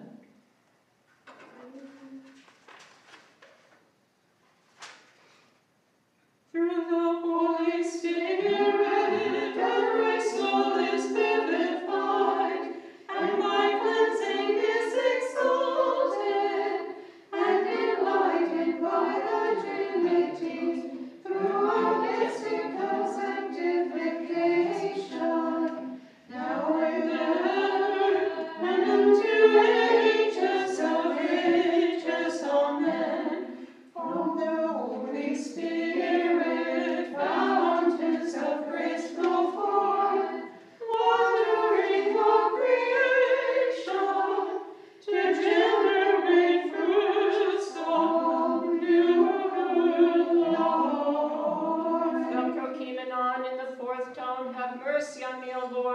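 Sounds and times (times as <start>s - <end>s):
group chanting a cappella: 6.6s - 52.8s.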